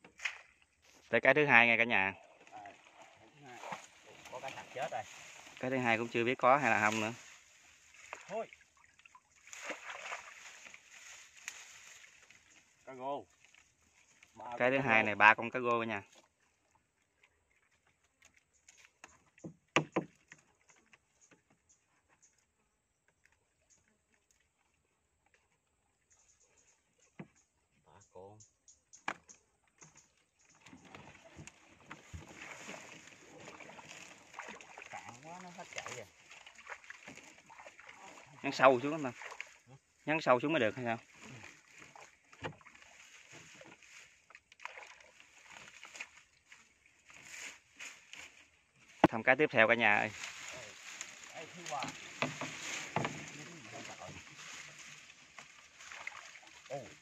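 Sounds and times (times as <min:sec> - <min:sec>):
water sloshing around a boat: 0:00.0 - 0:28.1, 0:28.7 - 0:57.0.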